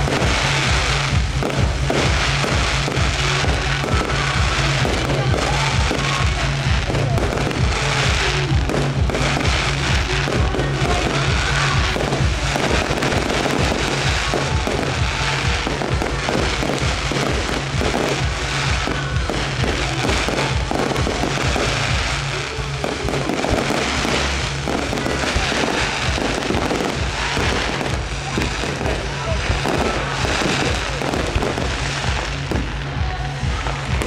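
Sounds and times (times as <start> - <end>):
fireworks bangs and crackling: 0.0 - 34.0
music playing: 0.0 - 34.0.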